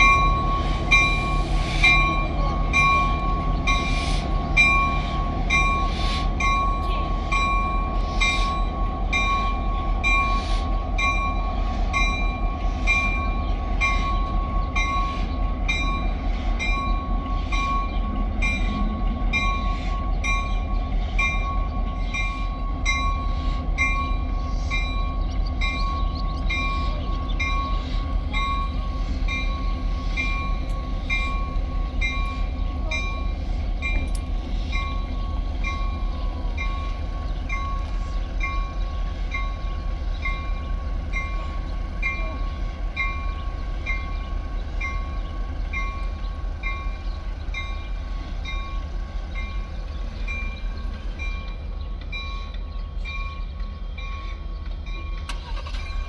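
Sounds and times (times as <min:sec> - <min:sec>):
diesel locomotive running: 0:00.0 - 0:56.0.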